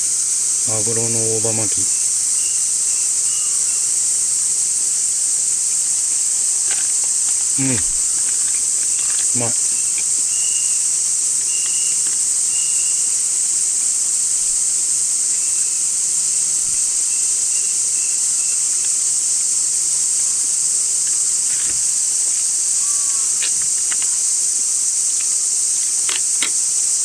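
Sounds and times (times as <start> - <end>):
cicadas shrilling: 0.0 - 27.0.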